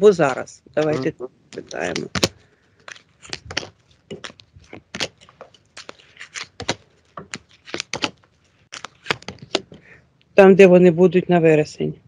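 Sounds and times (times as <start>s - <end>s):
cards being shuffled: 0.0s - 9.9s.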